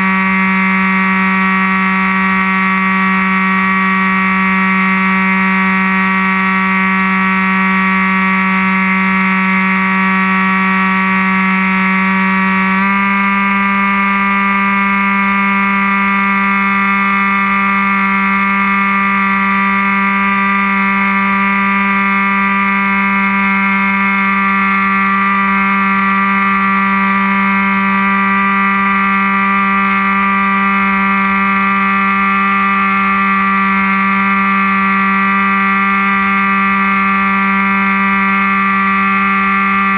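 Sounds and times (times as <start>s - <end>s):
electric motor and propeller whining: 0.0s - 39.9s.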